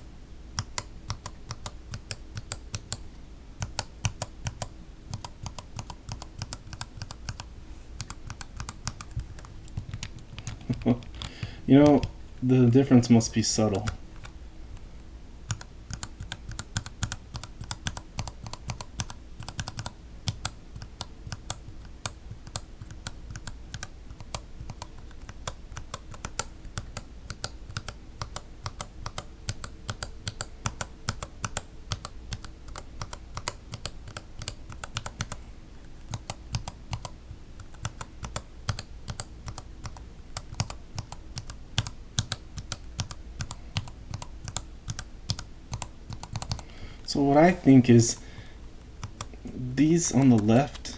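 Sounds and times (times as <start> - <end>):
mechanical keyboard typing: 0.6 - 3.0, 3.6 - 12.1, 15.5 - 35.4, 36.1 - 46.6, 49.0 - 49.3.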